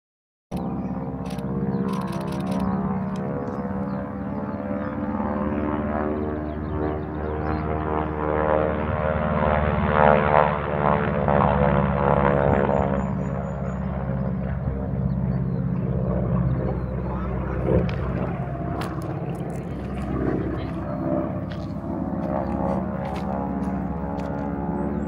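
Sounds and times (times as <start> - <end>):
propeller aircraft droning: 0.5 - 25.0.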